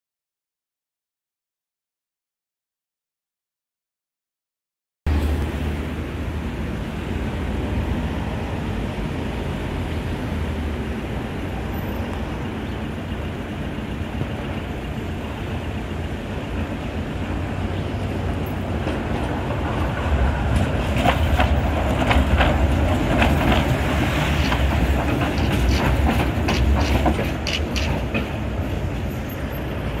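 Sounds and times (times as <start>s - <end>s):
electric tram rumble: 5.1s - 30.0s
road traffic: 5.1s - 30.0s
tram wheels clacking on track: 5.2s - 30.0s.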